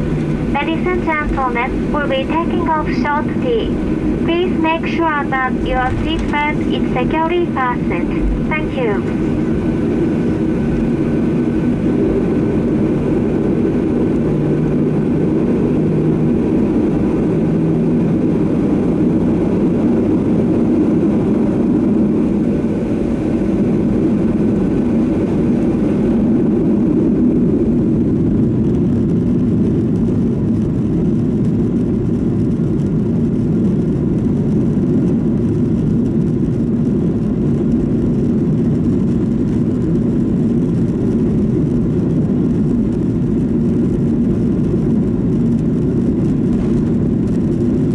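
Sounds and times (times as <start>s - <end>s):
jet engines deep hum: 0.0s - 47.9s.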